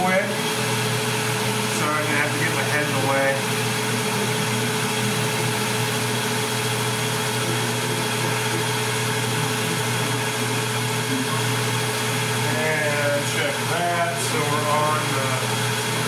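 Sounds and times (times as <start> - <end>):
metal lathe running: 0.0 - 16.0
tool cutting metal: 0.0 - 16.0.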